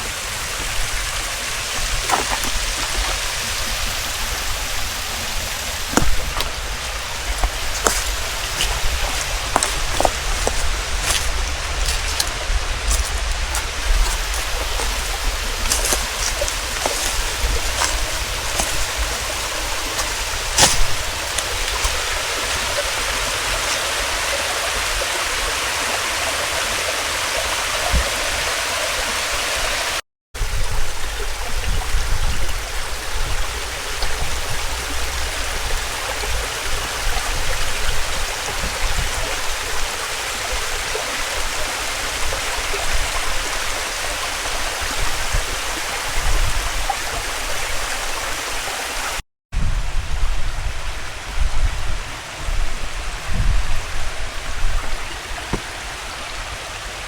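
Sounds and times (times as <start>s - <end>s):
running water: 0.0s - 49.2s, 50.0s - 57.0s.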